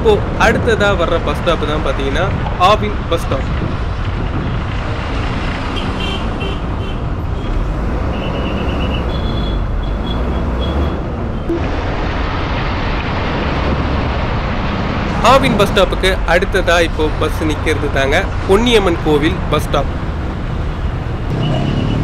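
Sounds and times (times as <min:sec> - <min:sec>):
bus engine and road rumble: 0:00.0 - 0:22.0
traffic alongside: 0:00.0 - 0:22.0.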